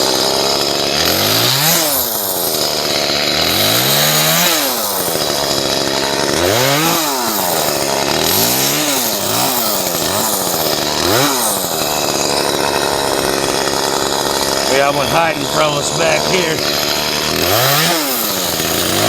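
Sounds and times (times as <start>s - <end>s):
chainsaw revving and idling: 0.0s - 19.0s.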